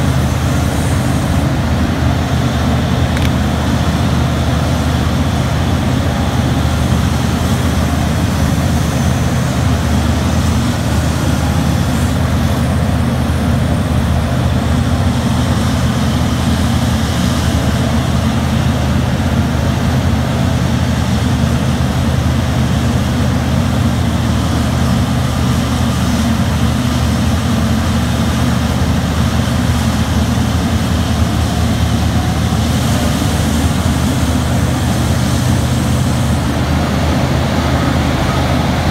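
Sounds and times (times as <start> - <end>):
excavator diesel engine drone: 0.0 - 38.9.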